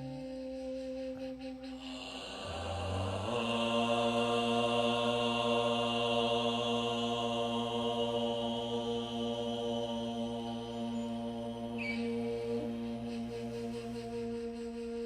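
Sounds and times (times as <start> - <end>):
man chanting a low tone: 1.9 - 14.2.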